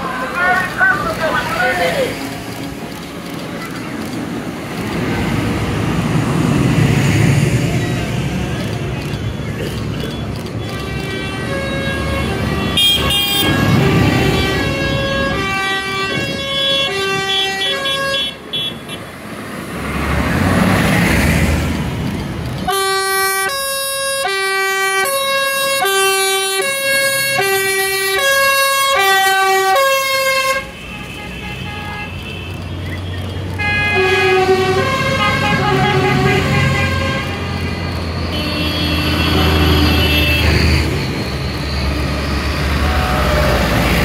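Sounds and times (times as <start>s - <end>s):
road noise: 0.0s - 44.0s.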